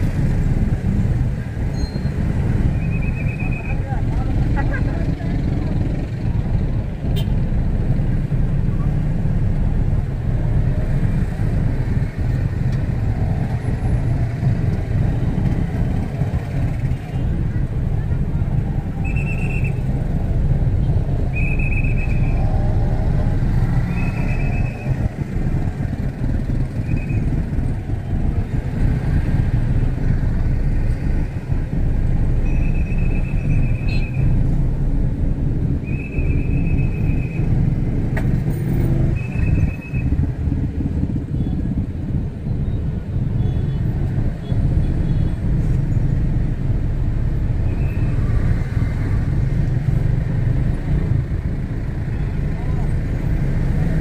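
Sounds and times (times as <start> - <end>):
traffic engine rumble: 0.0 - 54.0.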